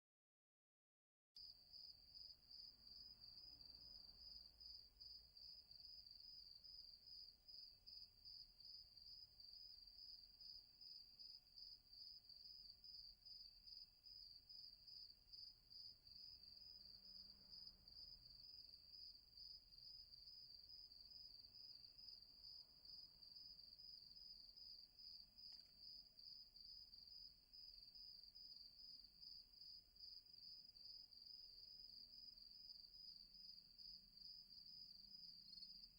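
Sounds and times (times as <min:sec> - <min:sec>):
crickets chirping: 0:01.4 - 0:35.9
faint insect chirps: 0:01.4 - 0:35.9.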